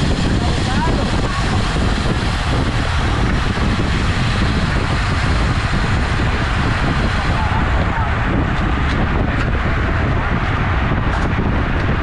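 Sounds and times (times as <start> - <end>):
road noise: 0.0 - 12.0
wind noise on microphone: 0.0 - 12.0.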